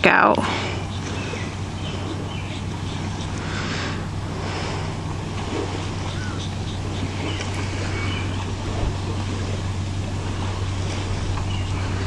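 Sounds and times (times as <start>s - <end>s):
constant hiss: 0.0s - 12.0s
steady low hum: 0.0s - 12.0s.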